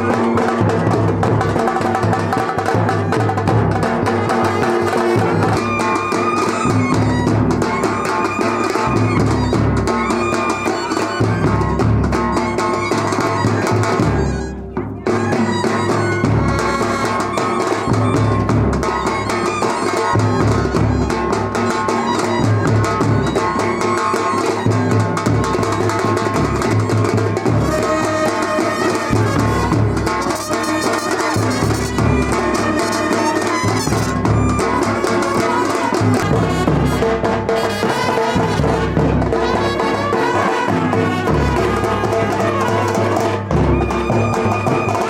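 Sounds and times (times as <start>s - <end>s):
music with drums and horns: 0.0s - 45.0s.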